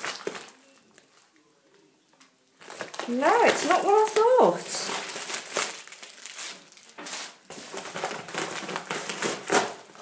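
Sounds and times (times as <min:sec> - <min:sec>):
plastic packaging crinkling: 0:00.0 - 0:01.4, 0:02.6 - 0:10.0.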